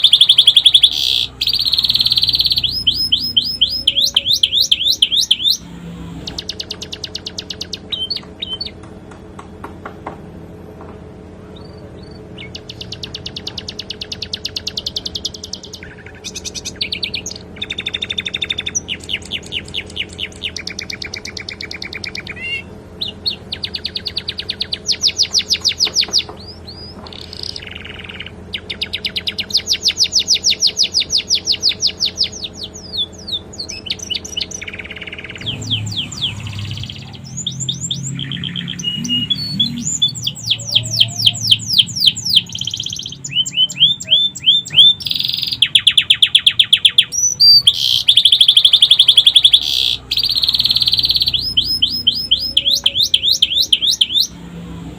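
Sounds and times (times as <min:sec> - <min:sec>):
canary singing trills: 0:00.0 - 0:08.9, 0:11.5 - 0:54.9.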